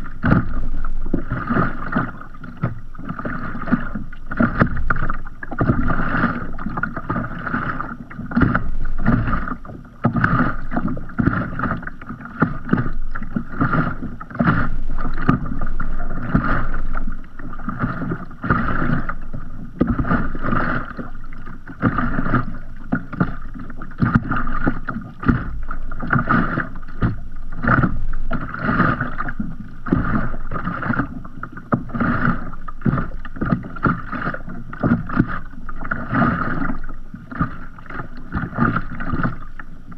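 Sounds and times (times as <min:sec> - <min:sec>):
water lapping against kayak: 0:00.0 - 0:39.9.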